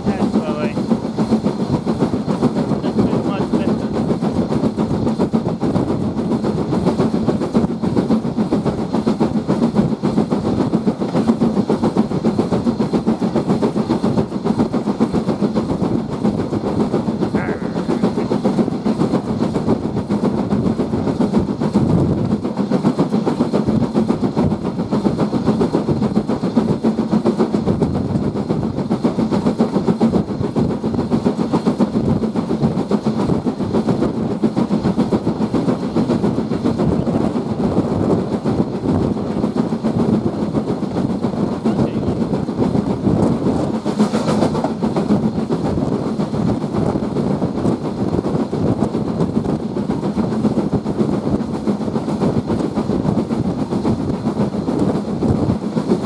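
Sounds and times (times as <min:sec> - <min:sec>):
steam locomotive exhaust beat: 0:00.0 - 0:56.0
wheels on rails: 0:00.0 - 0:56.0.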